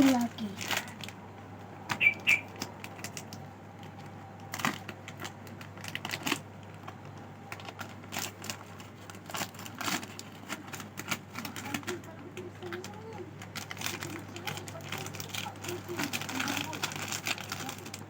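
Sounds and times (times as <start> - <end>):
plastic snack packets crinkling: 0.0 - 1.2, 1.9 - 18.0.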